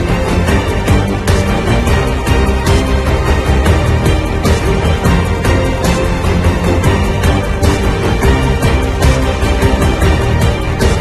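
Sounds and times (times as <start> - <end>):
music with drums and heavy bass: 0.0 - 11.0.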